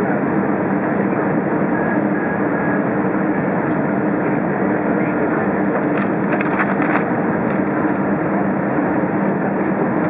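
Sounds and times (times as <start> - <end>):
aircraft cabin engine and airflow rush: 0.0 - 10.0.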